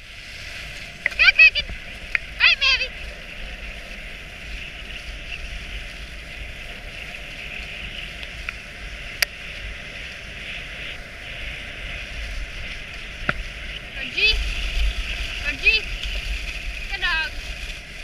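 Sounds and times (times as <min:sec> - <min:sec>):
low rumble: 0:00.0 - 0:18.0
sled runners hissing on snow: 0:00.0 - 0:18.0.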